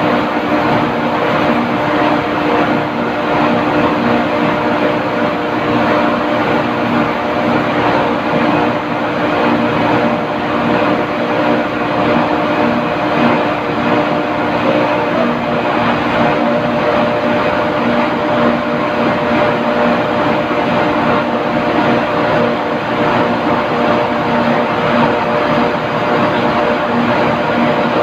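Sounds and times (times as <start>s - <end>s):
machinery droning hum: 0.0s - 28.0s.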